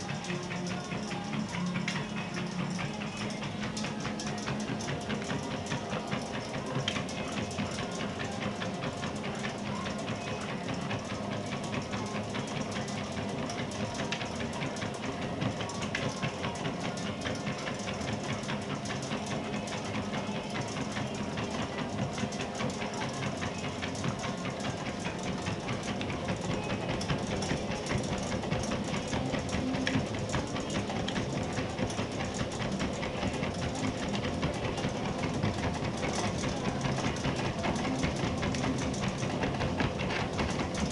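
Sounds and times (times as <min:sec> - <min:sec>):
dog trotting on treadmill belt: 0:00.0 - 0:40.9
treadmill mechanical hum: 0:00.0 - 0:40.9.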